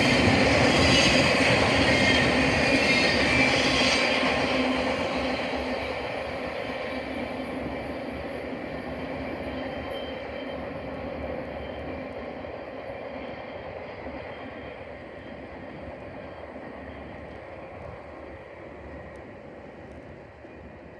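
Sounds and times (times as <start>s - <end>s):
freight train rumbling on rails: 0.0s - 20.9s.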